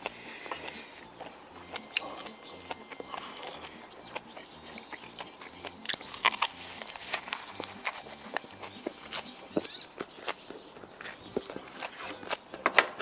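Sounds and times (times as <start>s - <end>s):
wet mouth clicks: 0.0s - 12.6s
person chewing and smacking: 0.0s - 13.0s.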